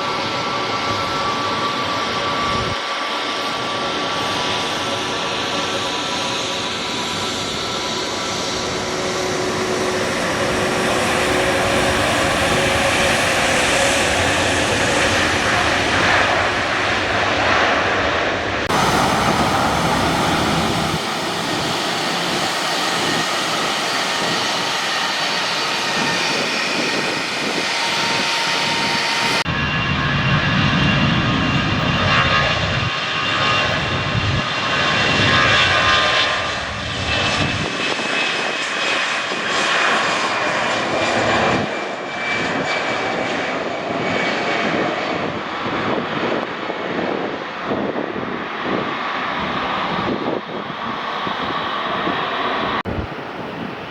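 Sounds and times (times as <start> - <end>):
airliner engines running: 0.0 - 53.9.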